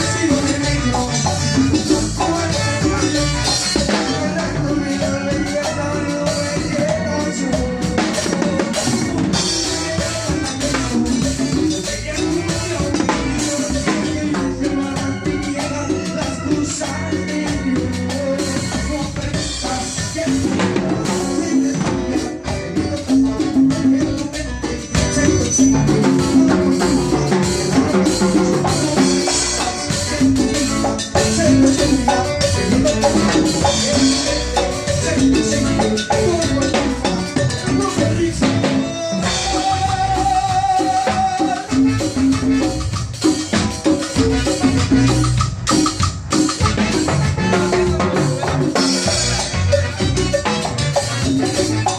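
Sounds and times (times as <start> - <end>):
music with drums and percussion: 0.0 - 51.9.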